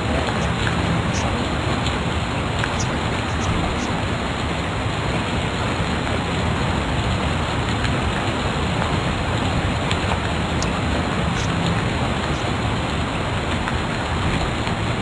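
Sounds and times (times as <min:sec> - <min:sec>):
steady loud hiss: 0:00.0 - 0:15.0.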